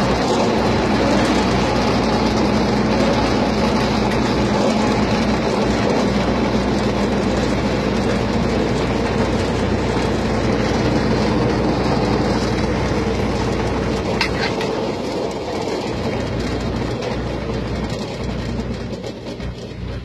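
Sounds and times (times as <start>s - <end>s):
carnival ride running: 0.0s - 20.0s.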